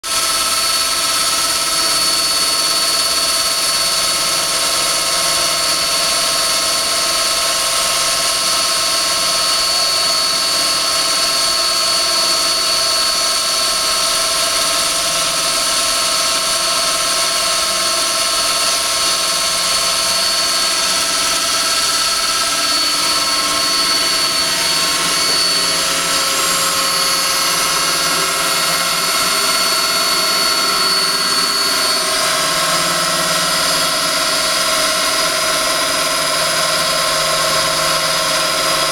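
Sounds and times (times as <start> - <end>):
core drill whining into concrete: 0.0 - 38.9.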